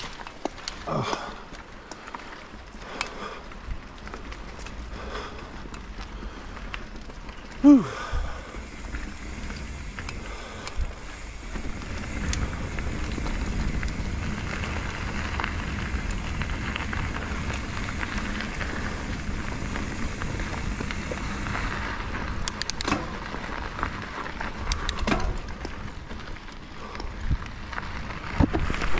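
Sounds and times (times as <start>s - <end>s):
bike rattling over rough ground: 0.0s - 28.9s
bike tyres on dirt and gravel: 0.0s - 28.9s.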